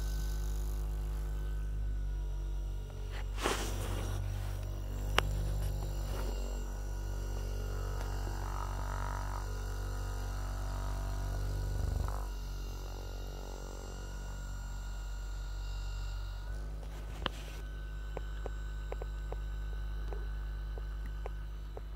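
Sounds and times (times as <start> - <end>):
massage gun droning: 0.0 - 21.9.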